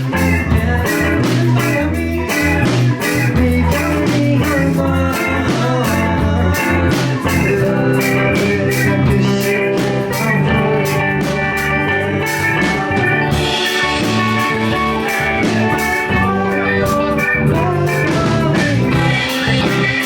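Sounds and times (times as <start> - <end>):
rock band playing instrumental: 0.0 - 20.0.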